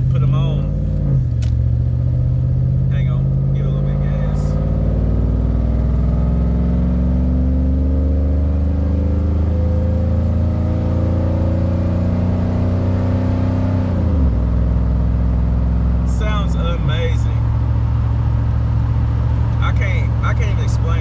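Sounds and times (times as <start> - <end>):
engine exhaust under throttle: 0.0 - 21.0.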